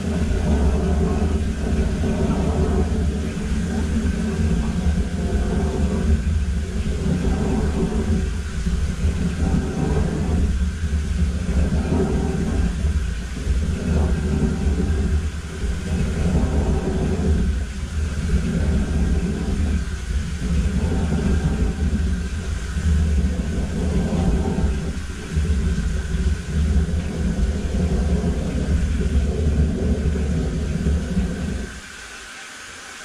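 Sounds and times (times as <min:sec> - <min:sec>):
sewer jetter nozzle rumbling: 0:00.0 - 0:32.0.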